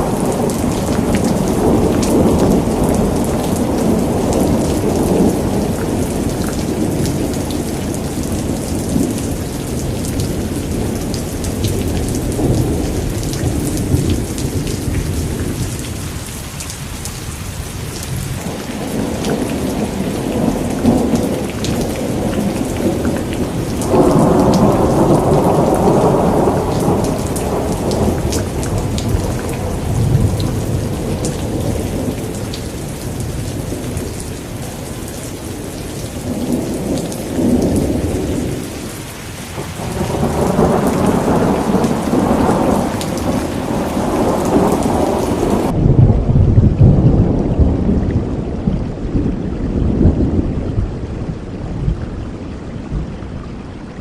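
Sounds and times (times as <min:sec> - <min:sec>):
thunder rumbling: 0:00.0 - 0:16.4, 0:17.1 - 0:53.2
heavy rain falling: 0:00.0 - 0:54.0.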